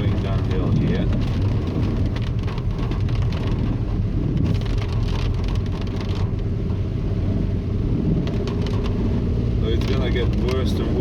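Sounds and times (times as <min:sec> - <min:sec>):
car engine and tyres rumble: 0:00.0 - 0:11.0
rain pattering on car body: 0:00.0 - 0:11.0.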